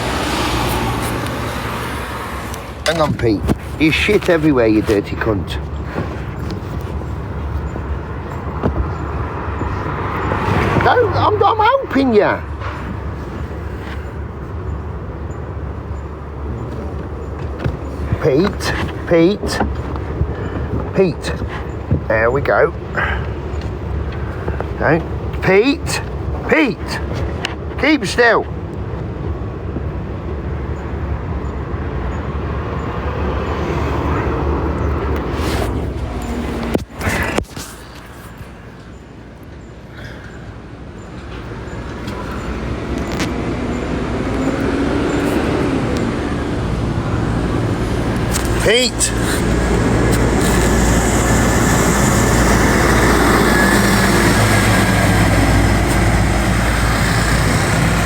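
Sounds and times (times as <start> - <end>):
vehicle passing: 0.0 - 37.4, 40.0 - 58.0
low engine hum: 0.0 - 58.0
road traffic rumble: 0.0 - 58.0.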